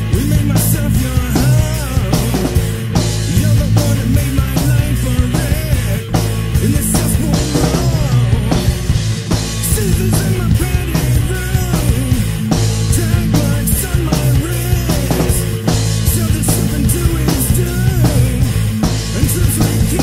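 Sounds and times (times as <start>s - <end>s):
drum kit beat: 0.0s - 20.0s
rock band song: 0.0s - 20.0s.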